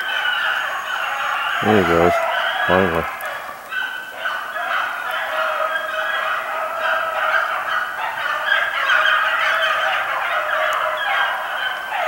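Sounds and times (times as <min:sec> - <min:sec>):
dogs howling: 0:00.0 - 0:12.0
dogs yelping: 0:00.0 - 0:12.0.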